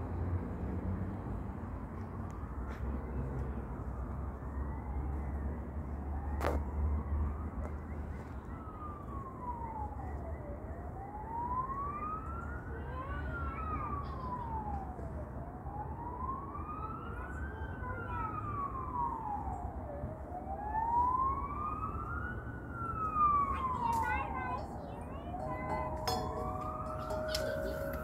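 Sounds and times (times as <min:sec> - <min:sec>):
emergency siren wailing: 0:04.2 - 0:28.0.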